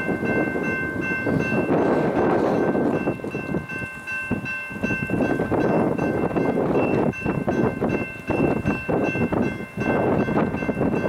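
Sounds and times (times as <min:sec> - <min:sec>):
crossing bell ringing: 0:00.0 - 0:11.0
wind rumbling on microphone: 0:00.0 - 0:11.0.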